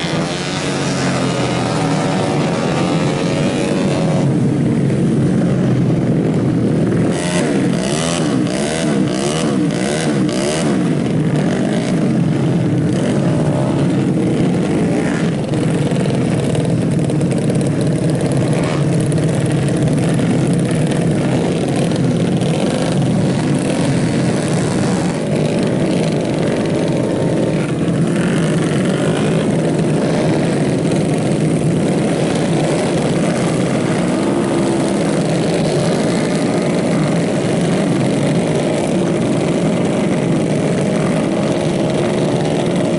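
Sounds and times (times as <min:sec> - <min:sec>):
scooter engines revving hard: 0:00.0 - 0:42.9.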